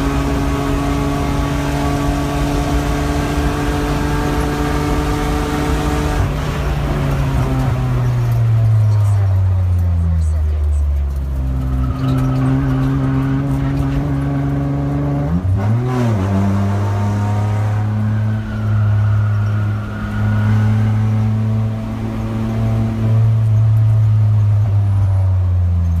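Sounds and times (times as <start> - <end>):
car engine running at speed: 0.0 - 26.0.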